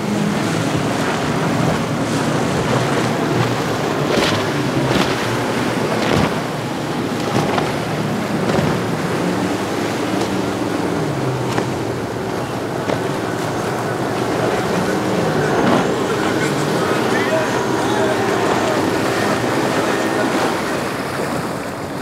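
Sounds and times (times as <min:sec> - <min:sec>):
outboard motors running: 0:00.0 - 0:22.0
water splashing off hull: 0:00.0 - 0:22.0
wind buffeting microphone: 0:00.0 - 0:22.0.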